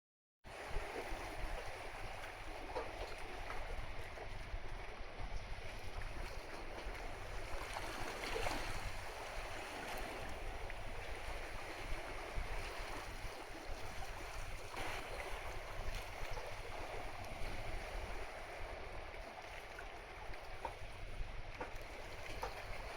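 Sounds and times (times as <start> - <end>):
wind: 0.4 - 22.9
sea water rushing: 0.5 - 22.9.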